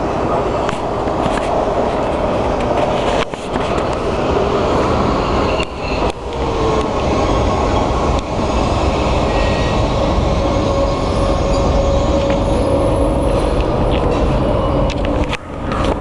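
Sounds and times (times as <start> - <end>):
underground train rumble: 0.0 - 16.0.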